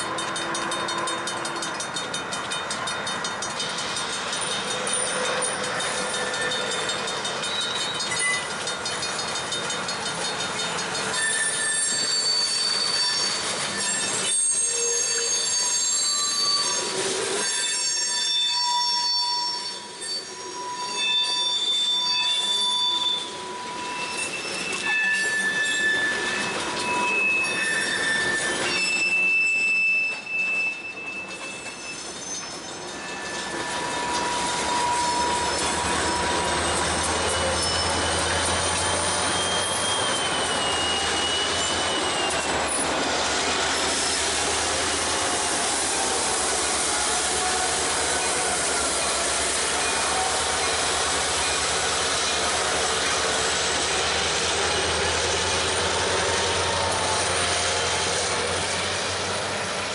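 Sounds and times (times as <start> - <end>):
diesel locomotive engine rumble: 0.0 - 59.9
train wheels squealing on track: 0.0 - 59.9.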